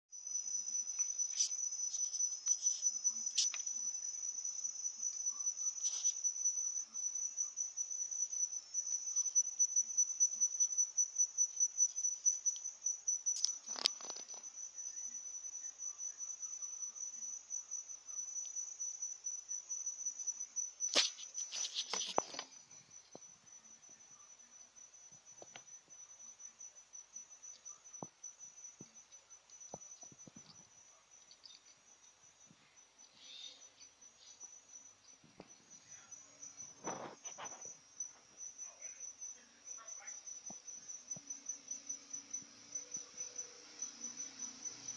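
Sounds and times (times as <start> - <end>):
cricket trilling: 0.1 - 44.9.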